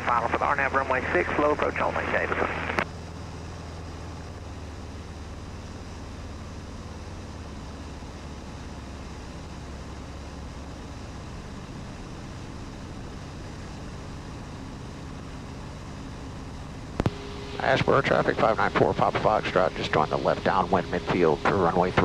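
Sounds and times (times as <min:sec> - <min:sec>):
airplane engine and propeller droning: 0:00.0 - 0:22.0.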